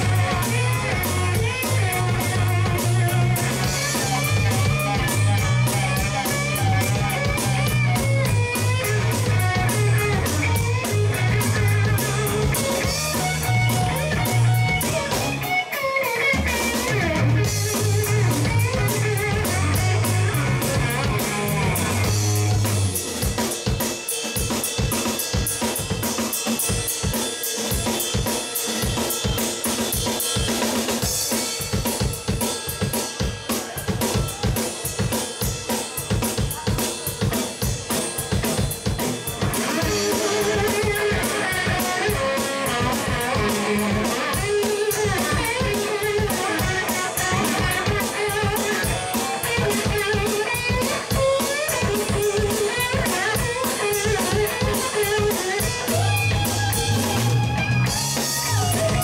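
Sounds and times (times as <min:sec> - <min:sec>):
electric guitar lead: 0:00.0 - 0:59.0
rock band playing: 0:00.0 - 0:59.0.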